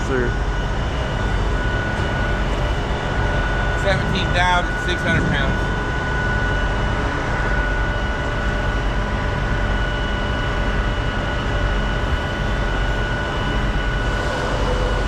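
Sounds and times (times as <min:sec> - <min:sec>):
crane engine rumble: 0:00.0 - 0:15.0
high-pitched whine: 0:00.0 - 0:15.0.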